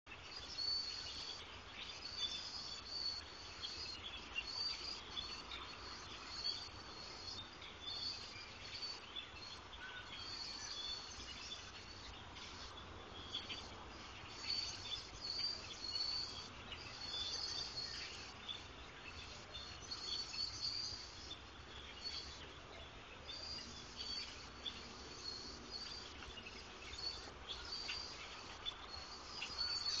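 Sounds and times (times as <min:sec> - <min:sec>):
flock of birds chattering: 0:00.1 - 0:30.0.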